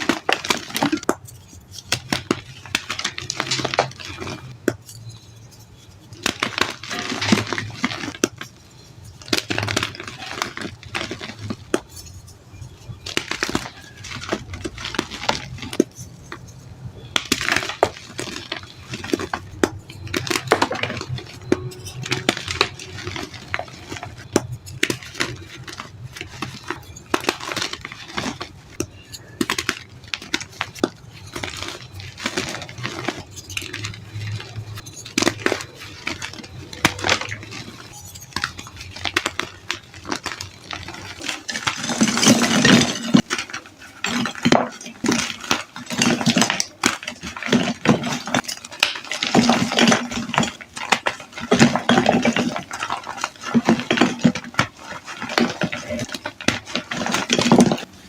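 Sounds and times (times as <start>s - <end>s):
chalk being crushed: 0.0s - 58.0s.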